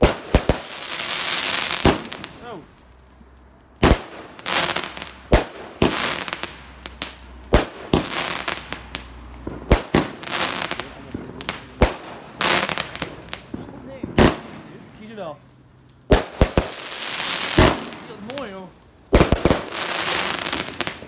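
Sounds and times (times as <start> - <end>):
firework bangs: 0.0 - 15.4, 16.0 - 21.0
crackling hiss: 0.0 - 21.0.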